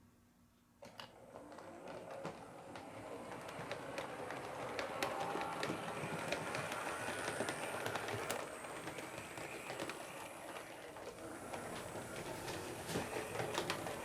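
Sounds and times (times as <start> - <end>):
wheels clicking over rail joints: 0.9 - 14.0
model train running on track: 1.3 - 14.0.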